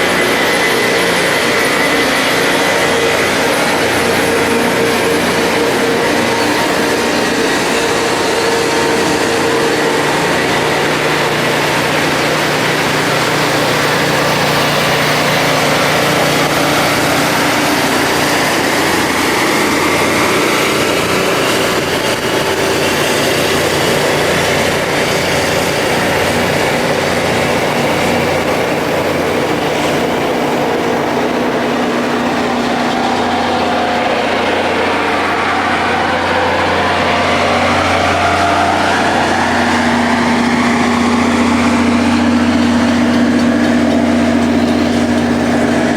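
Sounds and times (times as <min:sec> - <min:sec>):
diesel engine hum: 0:00.0 - 0:45.9
rail grinding wheels: 0:00.0 - 0:45.9.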